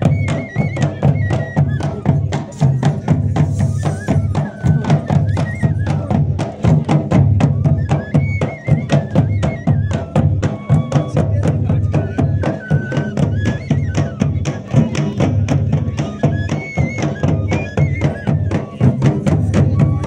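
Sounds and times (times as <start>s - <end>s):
barrel drums beating: 0.0s - 20.0s
high wavering pipe melody: 0.0s - 20.0s.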